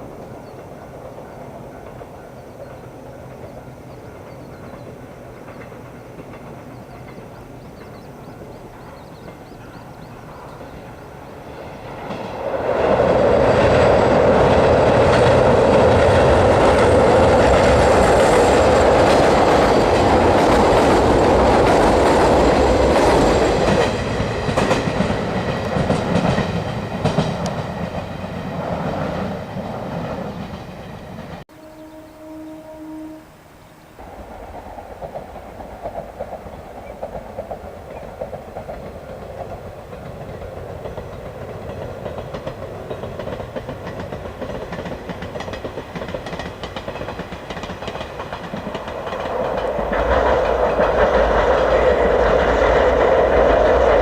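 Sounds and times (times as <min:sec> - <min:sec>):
wheels clacking over rail joints: 0:00.0 - 0:31.4, 0:34.1 - 0:54.0
electric train rumbling: 0:00.0 - 0:54.0.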